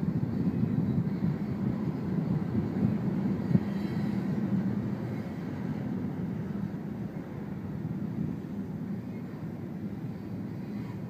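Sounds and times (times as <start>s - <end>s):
train wheels rumbling on rail: 0.0s - 11.0s
wind buffeting microphone: 0.0s - 11.0s.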